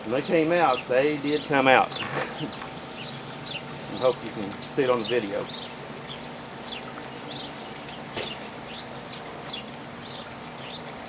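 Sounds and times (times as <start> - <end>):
bird chirping: 0.1 - 11.0
bees buzzing: 0.2 - 11.0.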